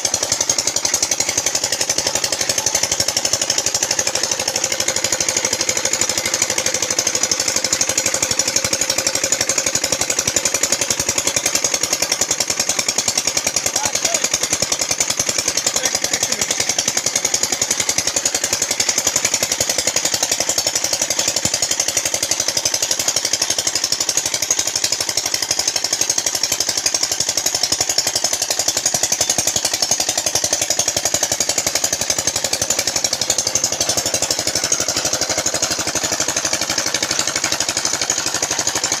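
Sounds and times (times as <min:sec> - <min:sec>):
chaff cutter: 0:00.0 - 0:39.0
diesel engine knocking: 0:00.0 - 0:39.0.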